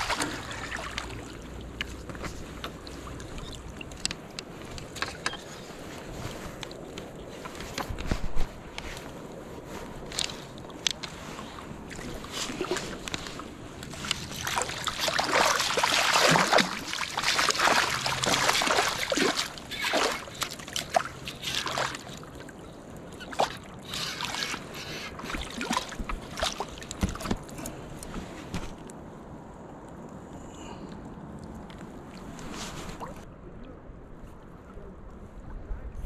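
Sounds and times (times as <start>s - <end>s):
water splashing and sloshing: 0.0s - 34.6s.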